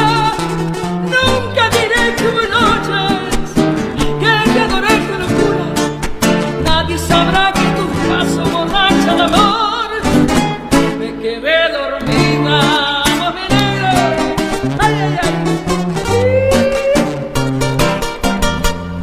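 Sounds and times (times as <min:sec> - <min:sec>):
woman singing with vibrato: 0:00.0 - 0:06.0, 0:06.6 - 0:17.4
acoustic guitars strumming and picking: 0:00.0 - 0:19.0.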